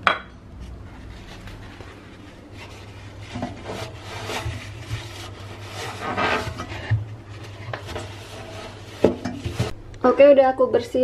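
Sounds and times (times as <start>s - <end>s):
tissue wiping a metal drum: 0.6s - 9.8s.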